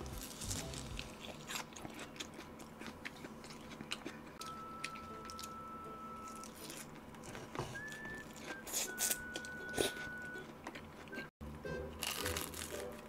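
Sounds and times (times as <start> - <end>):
crunchy chewing of salad: 0.0 - 5.5, 6.3 - 11.3.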